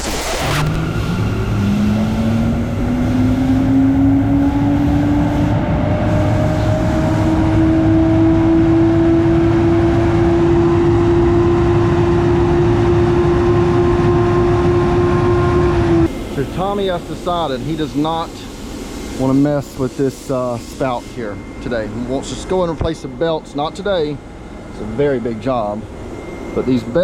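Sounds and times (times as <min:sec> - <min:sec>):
machine whine spinning up: 0:00.0 - 0:27.0
steady machine rumble: 0:00.0 - 0:27.0.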